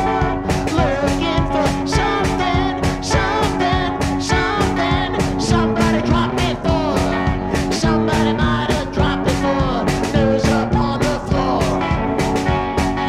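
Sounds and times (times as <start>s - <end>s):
rock band playing: 0.0s - 13.0s
steady drum beat: 0.0s - 13.0s.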